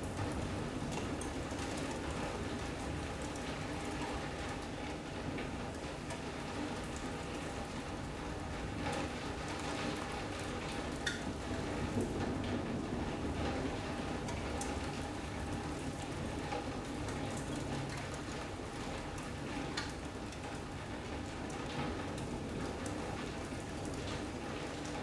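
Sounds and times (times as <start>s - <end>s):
rain on roof and glass: 0.1s - 25.0s.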